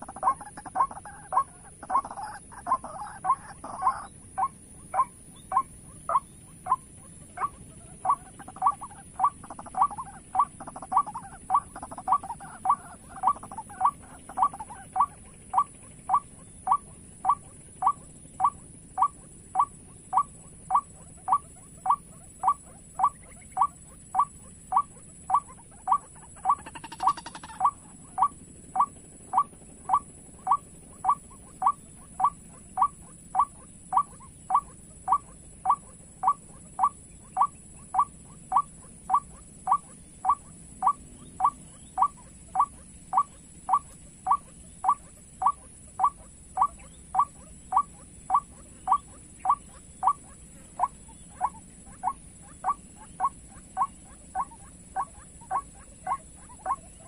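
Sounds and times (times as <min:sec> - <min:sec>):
repeated bird call: 0:00.0 - 0:57.0.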